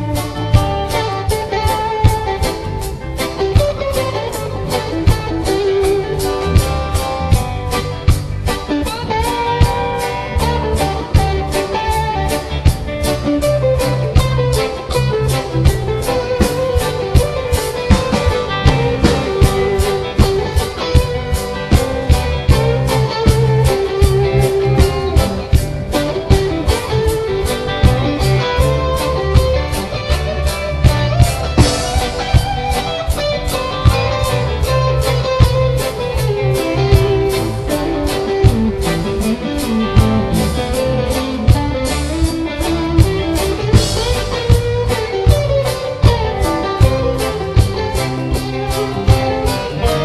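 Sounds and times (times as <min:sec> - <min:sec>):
reggae band playing: 0:00.0 - 0:50.0.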